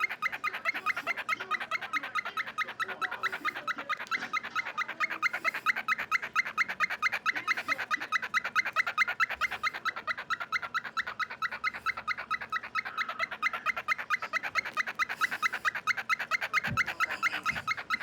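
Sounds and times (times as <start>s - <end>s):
cockatiel squeaky chirps: 0.0s - 18.0s.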